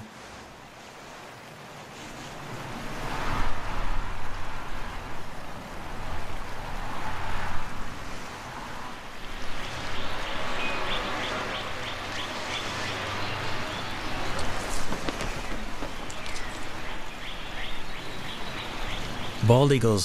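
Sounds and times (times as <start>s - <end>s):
wind gusting: 0.0s - 19.6s.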